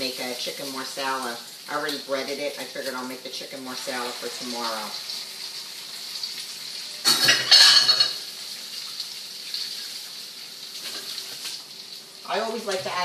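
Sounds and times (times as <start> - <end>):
chicken sizzling in frying pans: 0.0 - 13.0
kitchen tap running water: 0.0 - 13.0.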